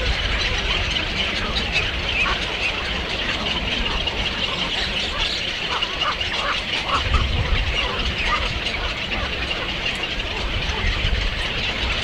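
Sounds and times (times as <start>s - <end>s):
many birds chattering: 0.0s - 12.0s.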